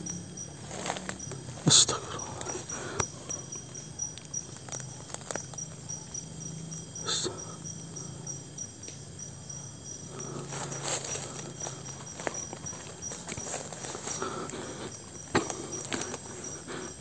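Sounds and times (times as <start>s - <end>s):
cricket chirping: 0.0s - 17.0s
steady low hum: 0.0s - 17.0s.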